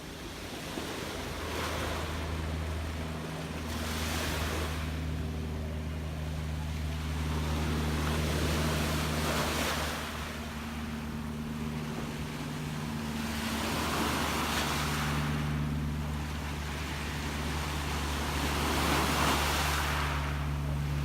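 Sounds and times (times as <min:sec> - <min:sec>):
sea waves washing: 0:00.0 - 0:21.0
steady low hum: 0:00.0 - 0:21.0.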